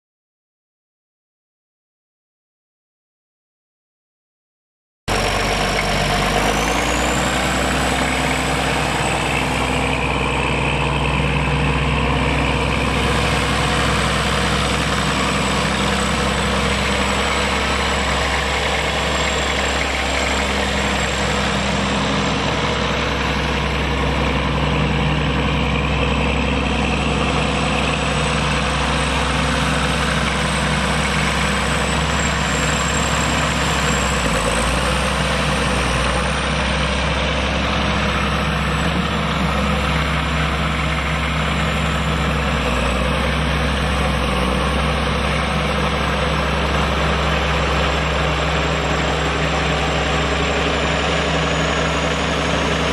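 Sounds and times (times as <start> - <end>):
tractor diesel engine idling: 5.1 - 52.9.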